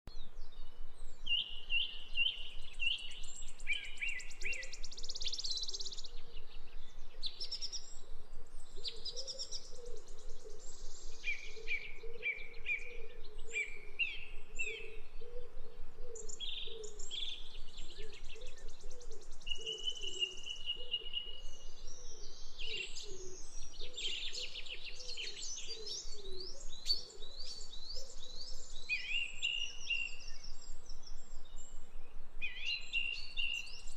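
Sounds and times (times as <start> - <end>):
birds singing and chirping: 0.1 - 33.9.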